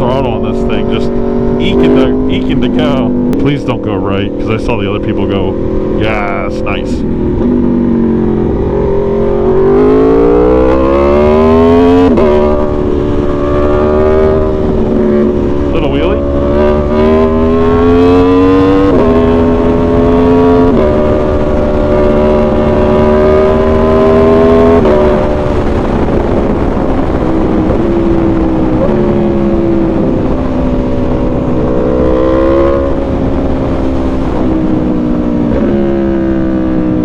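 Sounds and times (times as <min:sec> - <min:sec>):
motorcycle engine accelerating: 0:00.0 - 0:37.0
wind rushing: 0:04.2 - 0:37.0.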